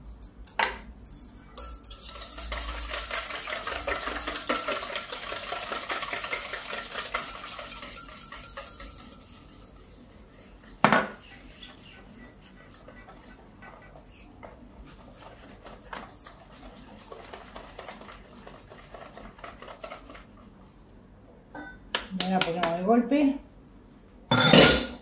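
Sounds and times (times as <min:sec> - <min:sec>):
whisk clinking in metal bowl: 0:00.0 - 0:20.4.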